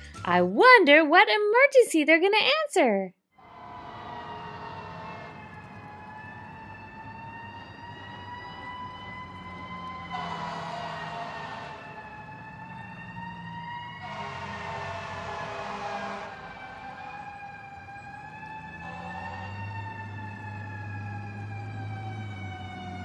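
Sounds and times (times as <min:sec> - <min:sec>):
fire engine siren wailing: 0:03.4 - 0:23.0
low vehicle rumble: 0:03.5 - 0:23.0.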